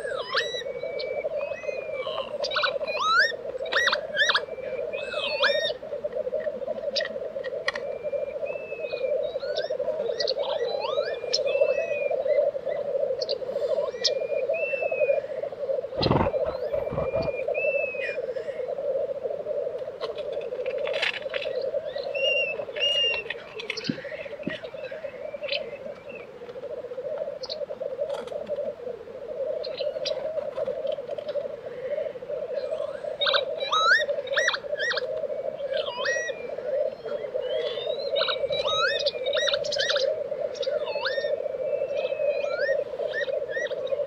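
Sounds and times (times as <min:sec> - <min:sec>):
black grouse bubbling song: 0:00.0 - 0:44.0
grouse hissing call: 0:00.0 - 0:44.0.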